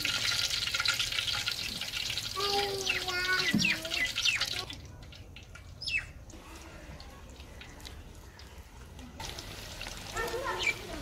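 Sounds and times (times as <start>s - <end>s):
frying oil crackling: 0.0s - 11.0s.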